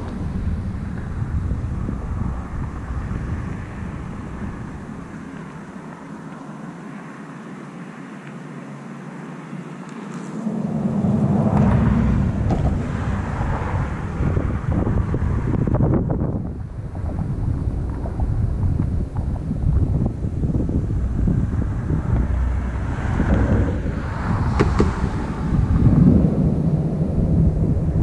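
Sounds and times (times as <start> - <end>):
low thunder rumbling: 0.0 - 5.8, 10.1 - 28.0
wind buffeting microphone: 0.0 - 7.0, 9.4 - 28.0.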